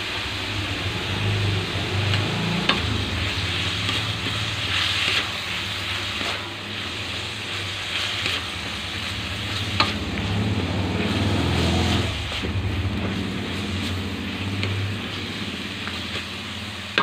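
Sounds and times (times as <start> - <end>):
food sizzling in a wok: 0.0 - 17.0
steady low hum: 0.0 - 17.0.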